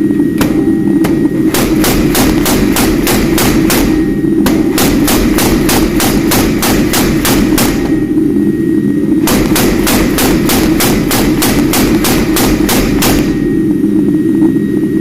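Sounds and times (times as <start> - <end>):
steady low drone: 0.0 - 15.0
hammer striking steel: 0.4 - 8.1, 9.2 - 13.6.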